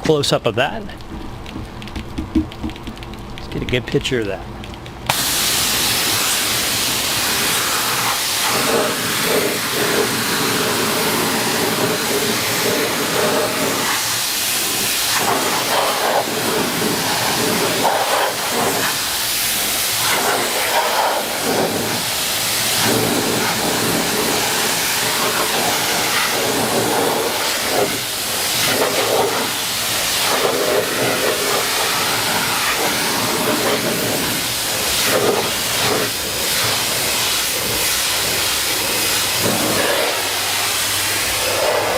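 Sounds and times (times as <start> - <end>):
pressure washer spraying water: 5.1 - 41.9.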